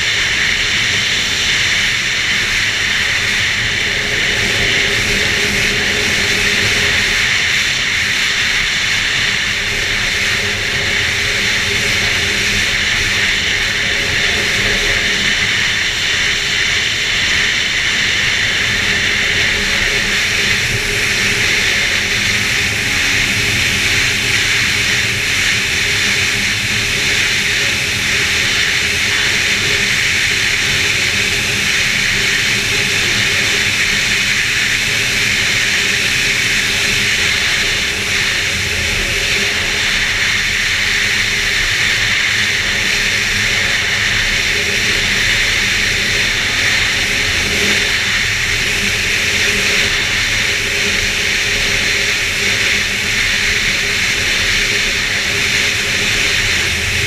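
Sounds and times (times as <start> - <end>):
snowmobile engine droning: 0.0 - 57.0.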